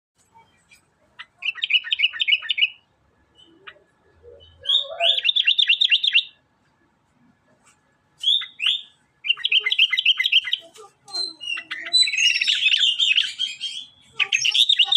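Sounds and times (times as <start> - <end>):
bird chirping: 0.2 - 6.5, 7.5 - 14.9.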